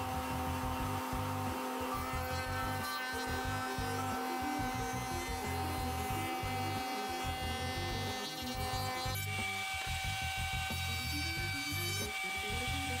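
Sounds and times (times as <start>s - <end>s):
background music: 0.0s - 13.0s
wood router whining: 0.0s - 13.0s.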